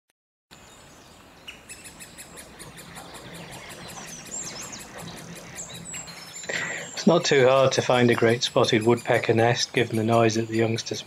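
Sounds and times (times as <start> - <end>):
birdsong: 0.5 - 11.0
woodpecker nestlings calling: 0.6 - 11.0.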